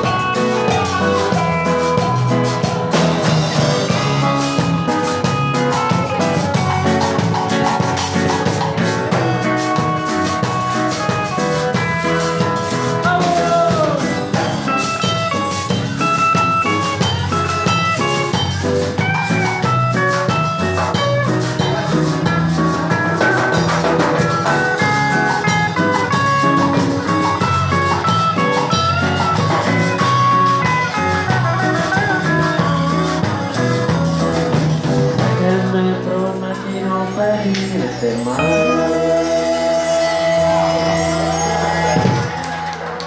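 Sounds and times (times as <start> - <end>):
drum kit: 0.0 - 43.0
electric guitar lead: 0.0 - 43.0
live band playing: 0.0 - 43.0.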